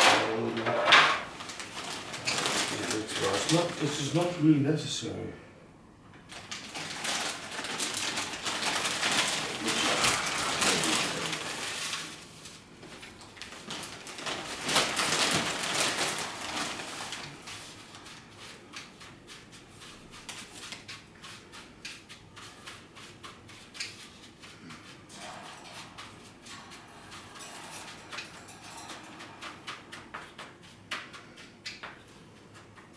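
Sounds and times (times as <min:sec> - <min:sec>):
rustling and scraping: 0:00.0 - 0:04.5, 0:06.3 - 0:32.9.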